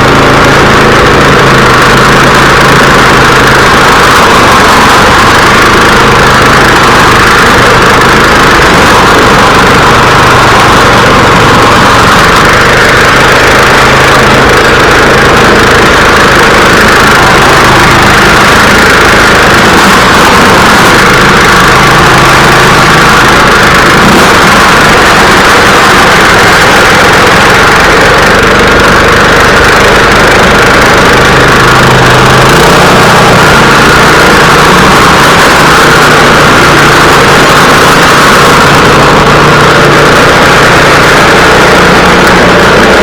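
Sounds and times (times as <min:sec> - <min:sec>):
snow thrower engine running: 0:00.0 - 0:43.0.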